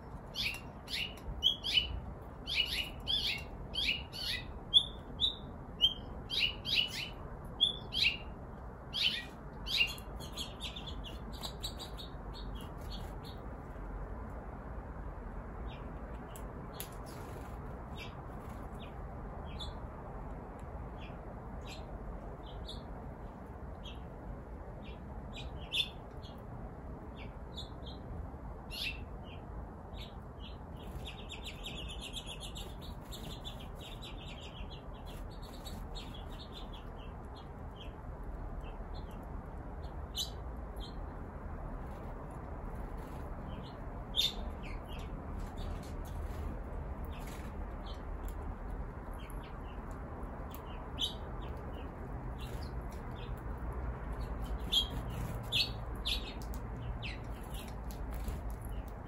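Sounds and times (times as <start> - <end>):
small songbirds chirping: 0.0 - 14.2, 15.4 - 59.0.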